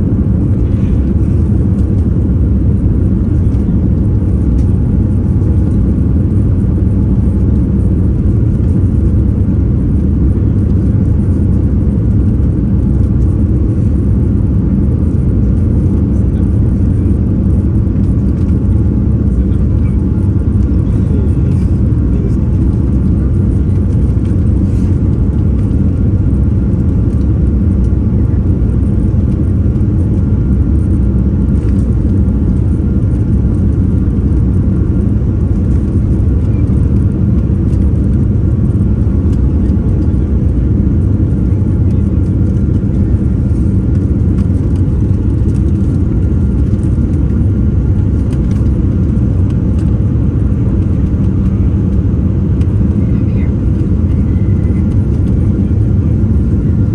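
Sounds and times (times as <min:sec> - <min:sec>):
jet cabin engine rumble: 0:00.0 - 0:56.9.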